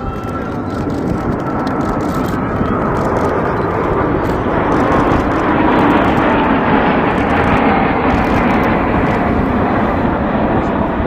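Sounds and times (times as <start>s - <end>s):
airplane engine roar: 0.0s - 11.0s.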